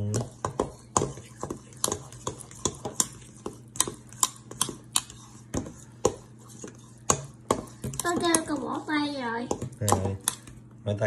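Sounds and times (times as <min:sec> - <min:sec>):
utensil scraping metal bowl: 0:00.0 - 0:10.5.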